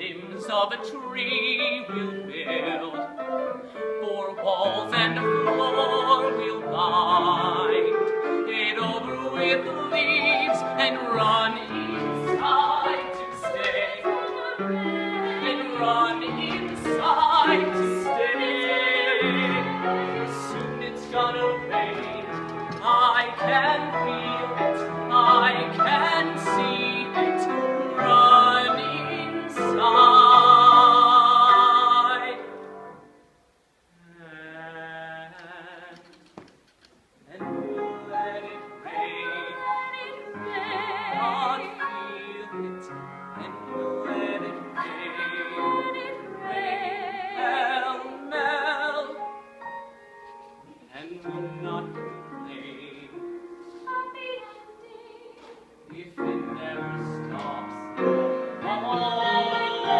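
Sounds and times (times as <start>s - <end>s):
man and woman singing duet: 0.0s - 32.6s, 34.0s - 36.5s, 37.3s - 49.3s, 50.7s - 59.9s
grand piano: 0.0s - 59.9s.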